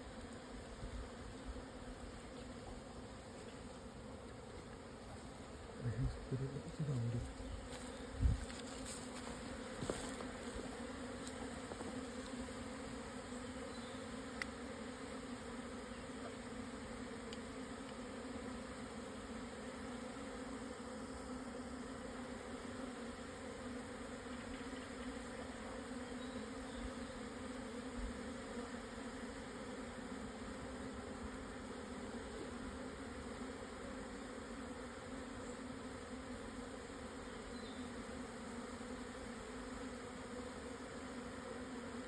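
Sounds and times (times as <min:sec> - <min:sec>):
bee swarm buzzing: 0:00.0 - 0:42.0.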